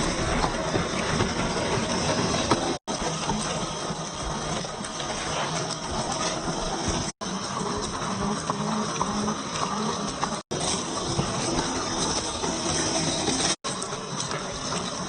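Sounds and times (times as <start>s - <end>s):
small electric drivetrain: 0.0s - 15.0s.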